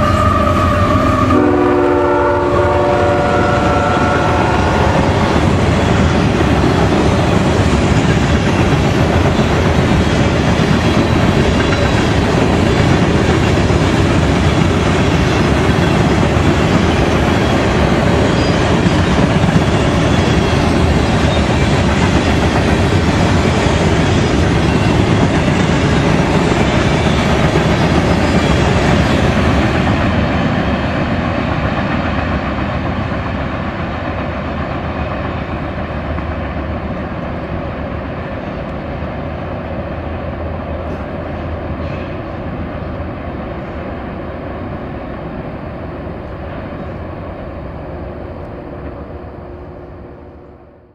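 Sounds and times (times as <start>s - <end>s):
freight train wheels on track: 0.0s - 50.9s.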